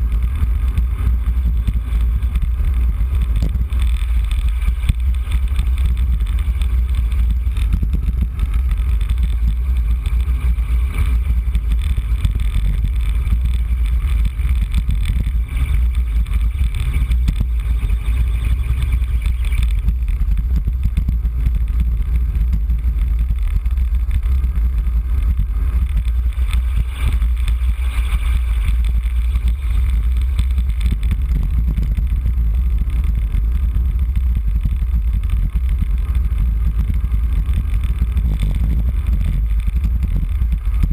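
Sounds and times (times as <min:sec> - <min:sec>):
wind rumbling over microphone: 0:00.0 - 0:40.9.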